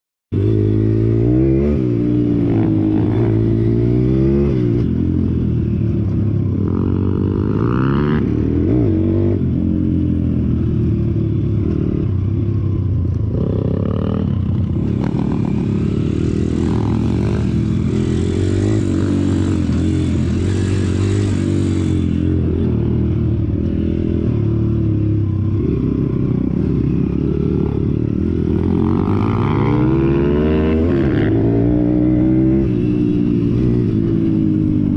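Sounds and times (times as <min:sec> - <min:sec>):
motorbike engine revving: 0:00.4 - 0:34.9.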